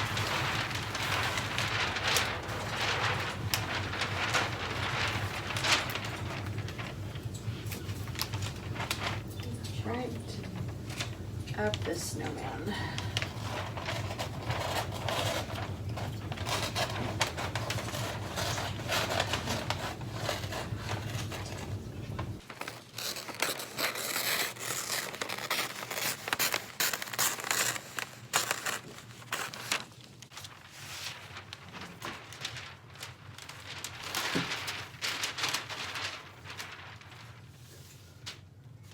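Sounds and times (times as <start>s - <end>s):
wrapping paper crinkling: 0.0s - 38.9s.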